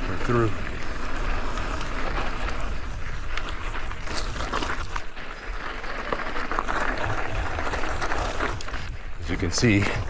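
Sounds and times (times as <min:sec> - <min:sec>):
wind rumble on microphone: 0:00.0 - 0:05.7, 0:06.7 - 0:10.0
bike clicks and rattles: 0:00.0 - 0:10.0
bike tyres crunching on gravel: 0:00.0 - 0:10.0.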